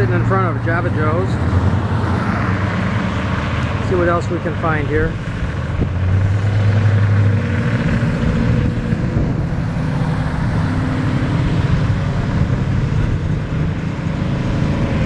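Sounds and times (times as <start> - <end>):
classic cars driving past: 0.0 - 15.0.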